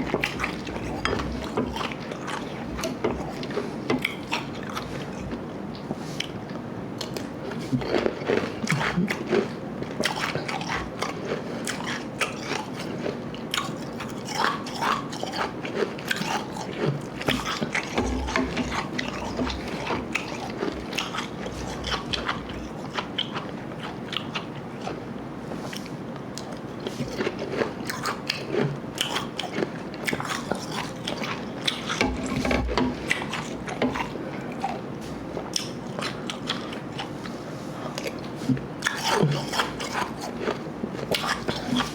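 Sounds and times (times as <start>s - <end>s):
chewing crunchy ice: 0.0s - 25.1s, 25.7s - 41.9s.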